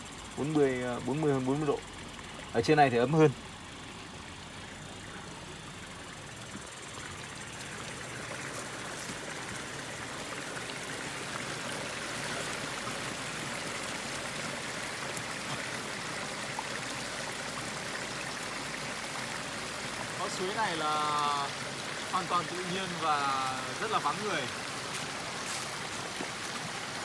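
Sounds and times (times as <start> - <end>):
spring water trickling: 0.0 - 27.0.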